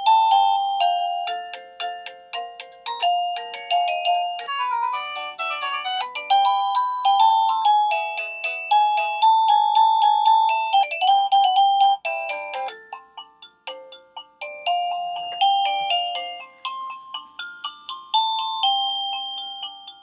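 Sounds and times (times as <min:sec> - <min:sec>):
electronic doorbell chime melody: 0:00.0 - 0:20.0.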